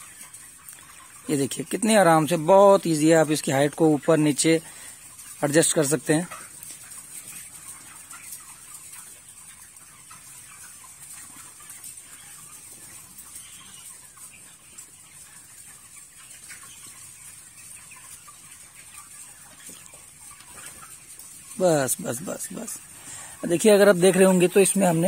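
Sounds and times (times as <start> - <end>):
chickens clucking and peeping: 0.0 - 25.0.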